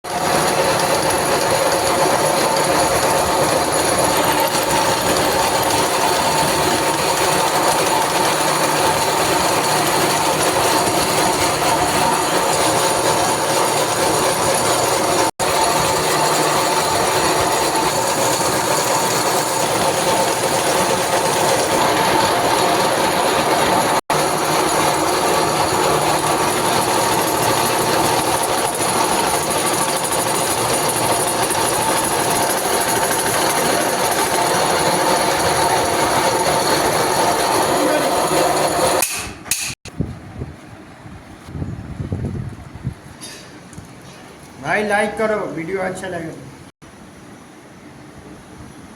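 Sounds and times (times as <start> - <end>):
milling machine running: 0.1 - 39.6.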